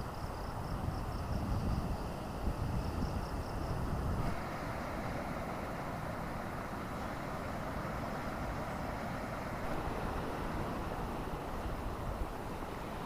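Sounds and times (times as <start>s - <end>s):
strong wind: 0.0s - 13.0s.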